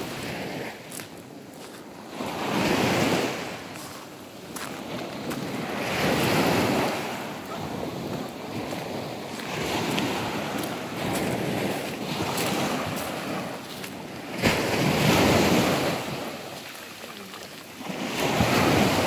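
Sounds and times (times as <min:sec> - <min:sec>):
small waves washing on sand: 0:00.0 - 0:19.0
wind buffeting microphone: 0:02.3 - 0:16.6, 0:17.8 - 0:19.0.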